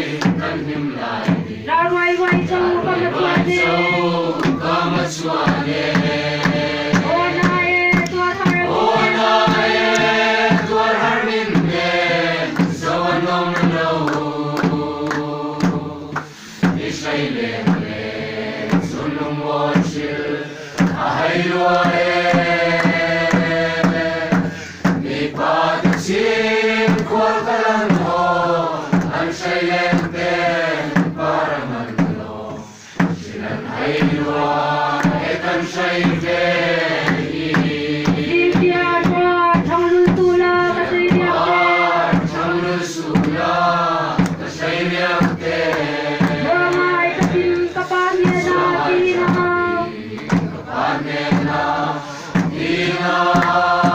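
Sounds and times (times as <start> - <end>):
barrel drum beats: 0.0 - 53.9
group singing a hymn: 0.0 - 53.9.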